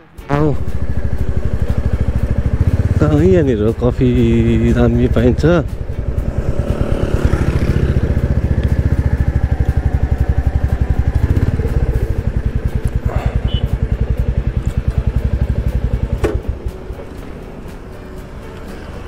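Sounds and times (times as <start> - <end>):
motorcycle engine idling: 0.5 - 19.0.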